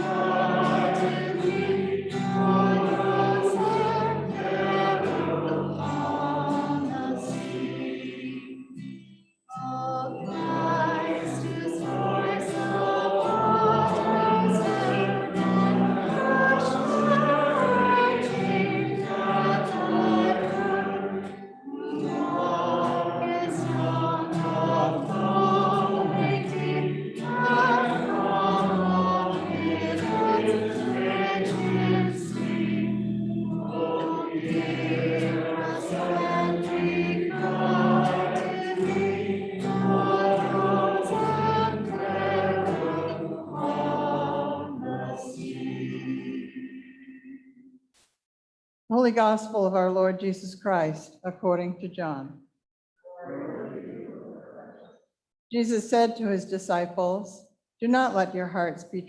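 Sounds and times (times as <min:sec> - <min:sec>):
congregation singing a hymn: 0:00.0 - 0:47.4.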